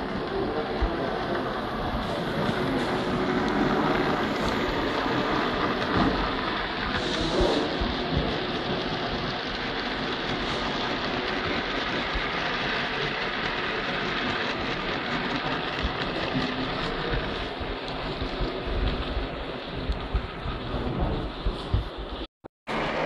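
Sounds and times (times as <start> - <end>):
model train wheels rumbling on rails: 0.0 - 23.0.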